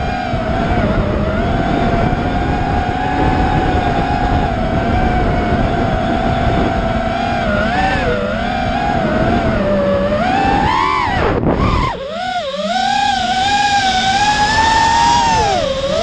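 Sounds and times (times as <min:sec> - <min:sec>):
drone motors whining: 0:00.0 - 0:16.0
wind rushing on camera: 0:00.0 - 0:16.0.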